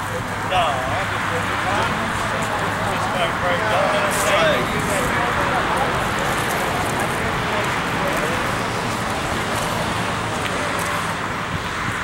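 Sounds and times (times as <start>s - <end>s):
faint voices: 0.0s - 11.7s
vehicle rumble and hiss: 0.0s - 12.0s.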